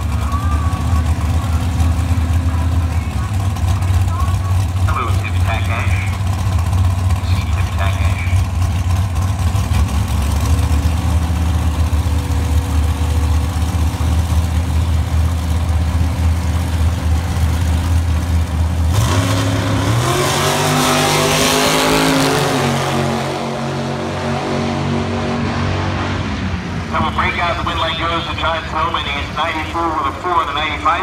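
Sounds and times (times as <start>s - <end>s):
race cars accelerating: 0.0s - 31.0s
race cars idling: 0.0s - 31.0s.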